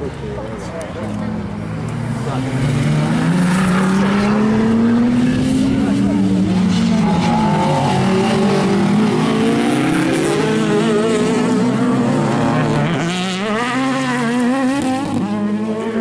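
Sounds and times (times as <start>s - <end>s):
racing car engines passing: 0.0s - 16.0s.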